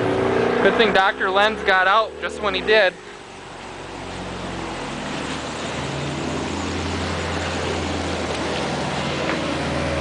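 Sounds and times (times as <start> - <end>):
road noise: 0.0 - 10.0
vehicle engine hum: 0.0 - 10.0.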